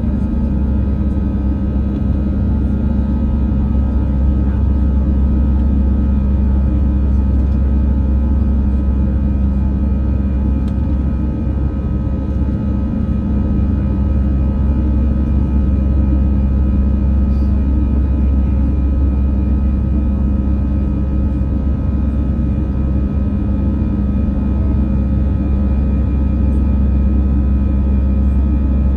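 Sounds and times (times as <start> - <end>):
airliner engine drone: 0.0 - 28.9.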